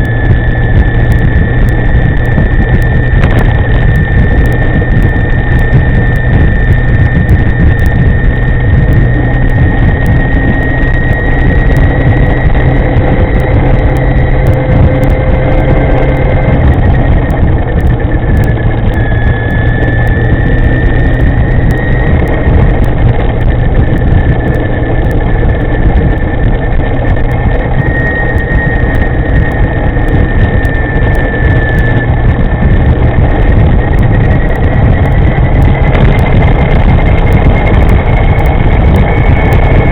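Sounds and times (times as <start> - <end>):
electric scooter high whine: 0.0 - 39.9
low rumble: 0.0 - 39.9.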